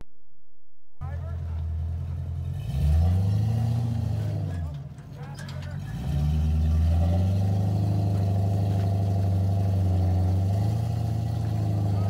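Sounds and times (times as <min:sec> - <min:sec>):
engine running at low revs: 0:01.0 - 0:12.0.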